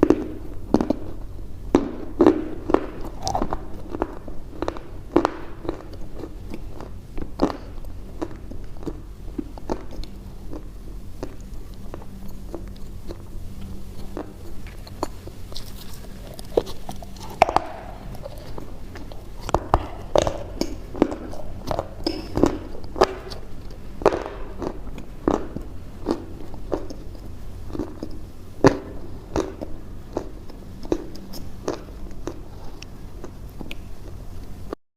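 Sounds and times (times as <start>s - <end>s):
crunchy chewing: 0.0s - 34.8s
steady low hum: 0.0s - 34.8s.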